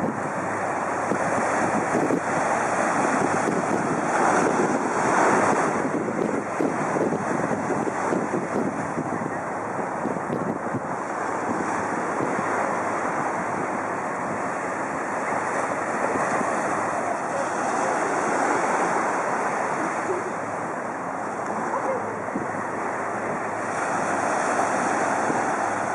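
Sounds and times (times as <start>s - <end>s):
small waves washing on shore: 0.0s - 25.9s
wind blowing across microphone: 0.0s - 25.9s.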